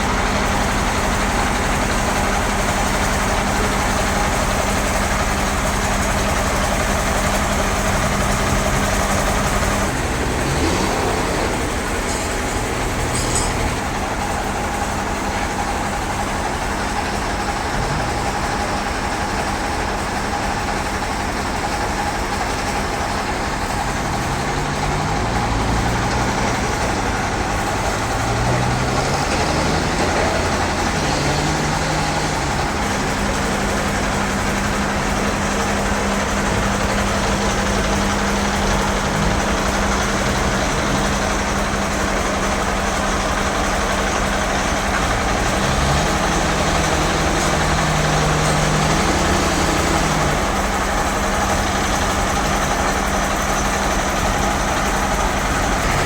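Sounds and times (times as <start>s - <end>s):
band saw machinery droning: 0.0s - 56.0s.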